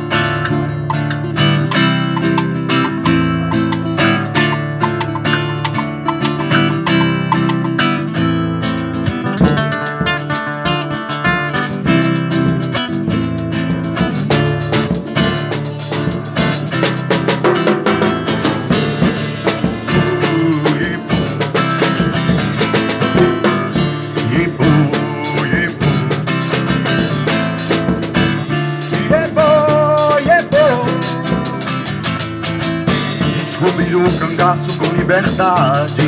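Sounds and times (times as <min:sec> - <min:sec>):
acoustic guitar strumming: 0:00.0 - 0:36.0
drum kit playing: 0:00.0 - 0:36.0.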